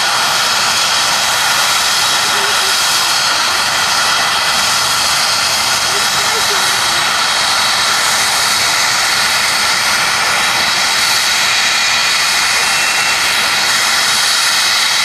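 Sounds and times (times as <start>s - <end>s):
helicopter turbine whine: 0.0s - 15.0s
rushing noise: 0.0s - 15.0s.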